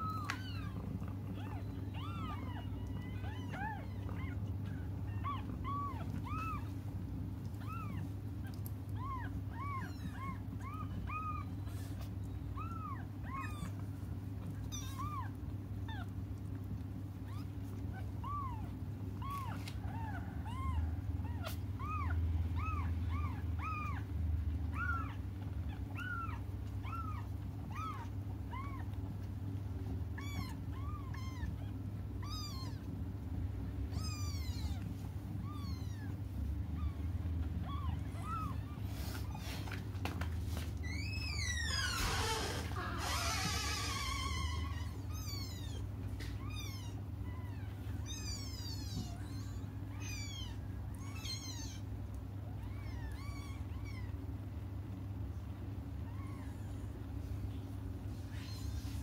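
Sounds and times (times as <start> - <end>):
kittens mewing: 0.0 - 59.0
steady low hum: 0.0 - 59.0.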